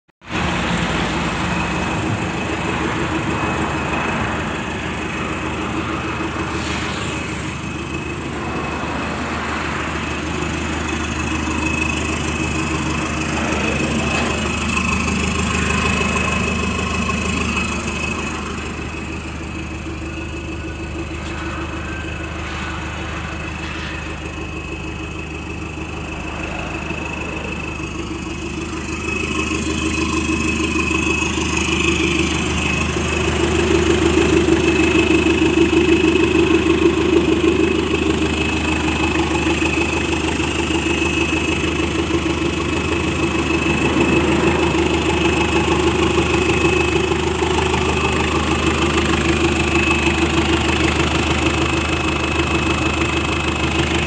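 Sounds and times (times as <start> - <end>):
diesel engine idling: 0.2 - 54.0
high whine: 0.9 - 54.0.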